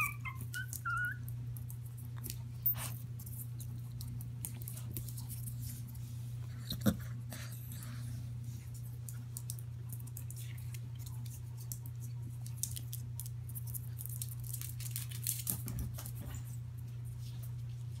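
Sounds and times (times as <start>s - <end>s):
puppy moving clicks and rustles: 0.0s - 18.0s
steady low hum: 0.0s - 18.0s.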